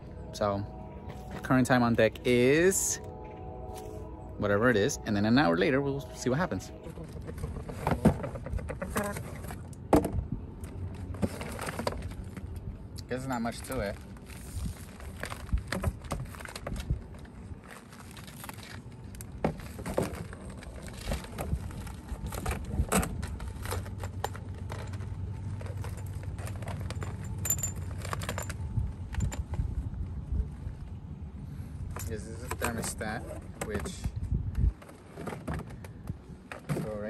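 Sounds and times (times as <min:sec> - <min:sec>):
low steady hum: 0:00.0 - 0:36.8.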